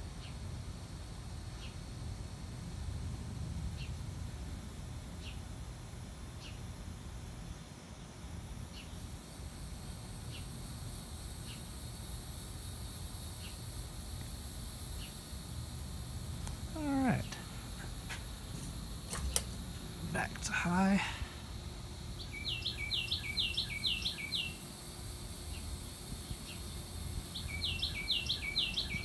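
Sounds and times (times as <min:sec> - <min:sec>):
ceiling fan humming: 0:00.0 - 0:29.0
high insect drone: 0:00.0 - 0:29.0.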